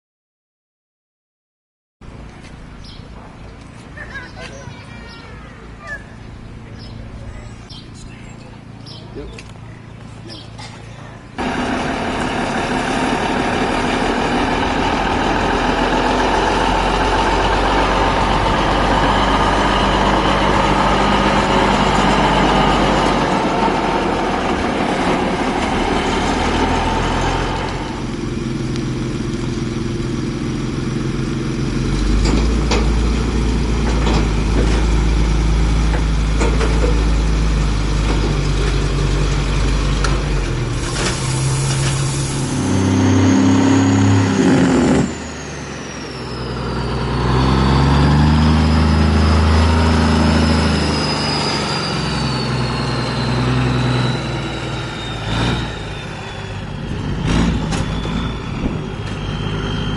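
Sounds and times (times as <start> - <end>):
diesel truck engines: 2.0 - 59.9.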